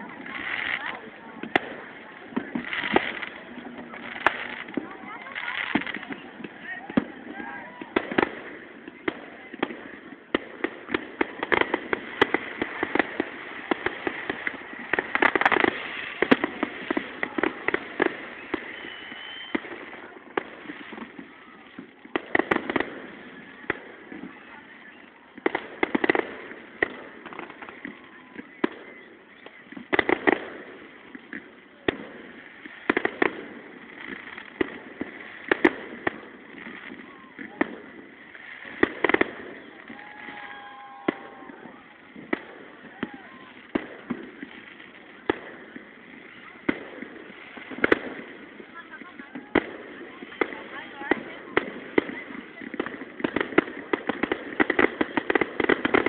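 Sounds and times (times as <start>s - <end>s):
continuous fireworks rumble: 0.0s - 56.0s
fireworks bangs and crackles: 0.0s - 56.0s.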